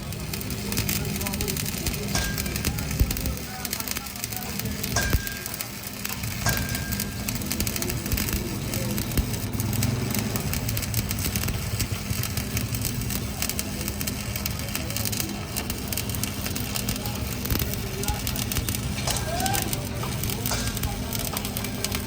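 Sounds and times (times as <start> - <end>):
arc welding crackle: 0.0 - 22.0.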